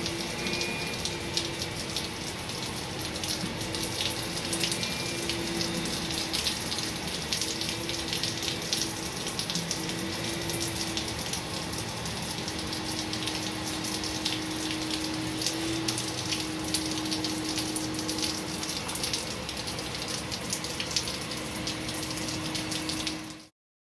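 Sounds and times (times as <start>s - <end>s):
rain spattering on wet ground: 0.0s - 23.5s.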